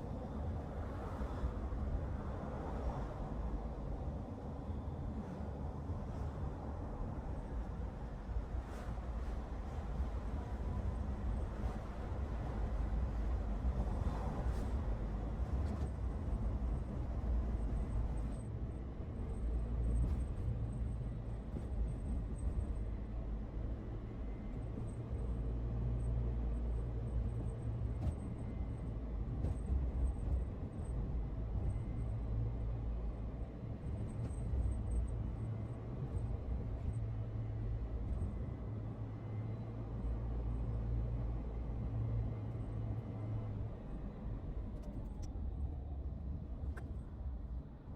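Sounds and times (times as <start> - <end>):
car engine and road noise: 6.5 - 47.9.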